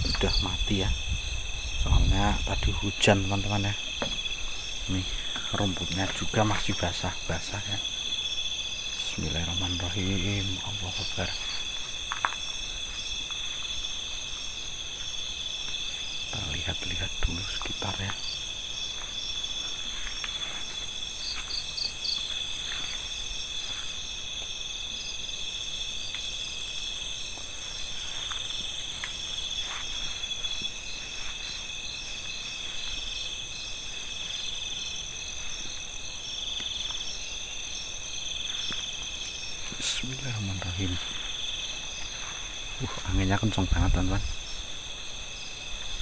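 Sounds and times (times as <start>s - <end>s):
insect chorus trilling: 0.0s - 46.0s.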